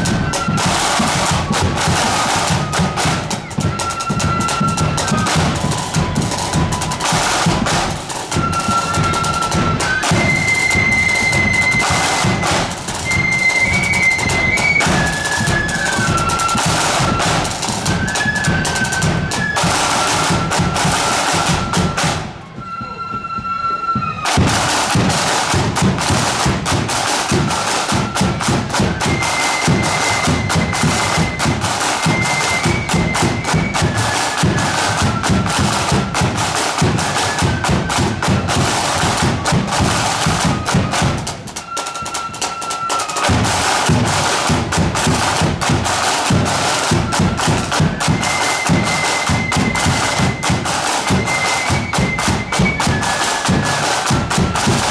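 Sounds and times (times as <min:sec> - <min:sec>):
snare and bass drums: 0:00.0 - 0:22.5, 0:24.2 - 0:54.9
flutes playing a march melody: 0:00.0 - 0:54.9.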